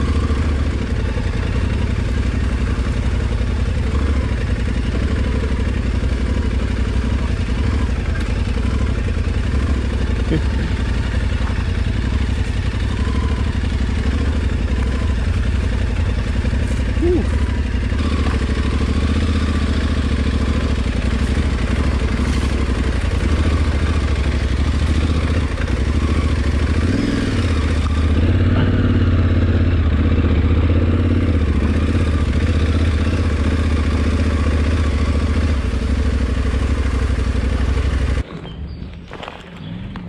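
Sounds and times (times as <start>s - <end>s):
motorcycle engine at low revs: 0.0s - 40.0s.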